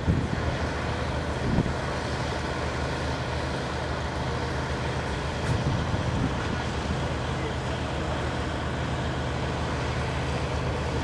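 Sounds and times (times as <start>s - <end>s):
diesel engines rumbling: 0.0s - 11.0s.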